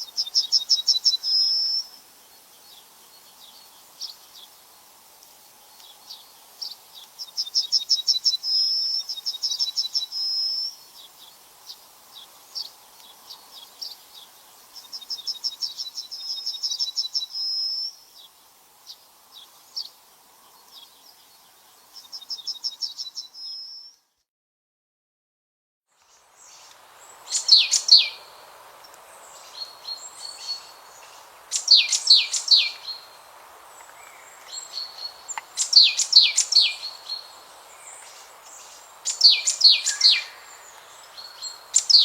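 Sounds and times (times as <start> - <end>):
songbird singing: 0.0 - 24.1, 25.9 - 42.0
faint background hiss: 0.0 - 24.3, 25.9 - 42.0.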